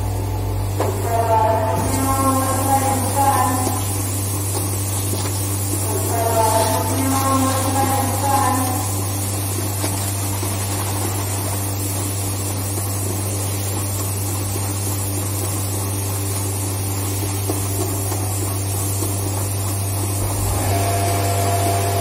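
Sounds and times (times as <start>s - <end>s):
machinery humming and hissing: 0.0s - 22.0s.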